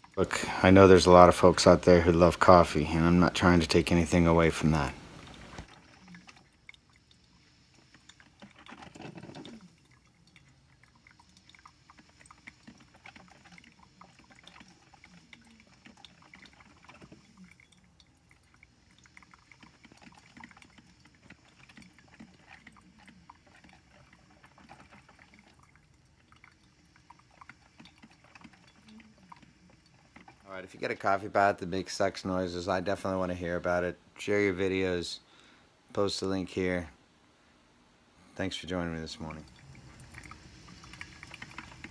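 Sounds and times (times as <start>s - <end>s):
coffee maker gurgling and sputtering: 0.0s - 35.0s, 38.3s - 41.9s.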